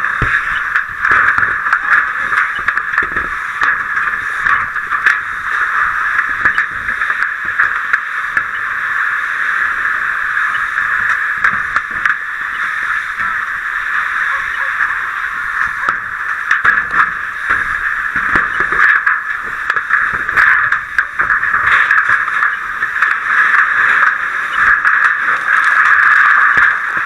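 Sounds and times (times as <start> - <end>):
faint clicks and knocks: 0.0 - 27.0
loud hissing rush: 0.0 - 27.0.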